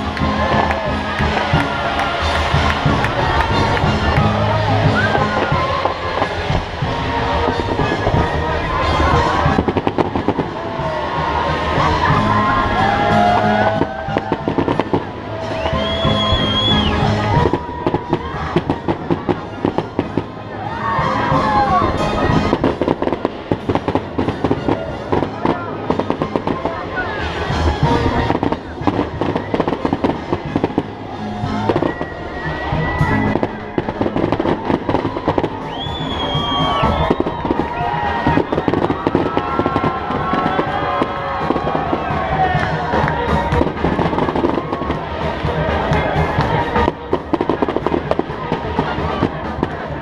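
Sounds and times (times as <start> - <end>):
fireworks bursting and crackling: 0.0 - 50.0
music playing: 0.0 - 50.0.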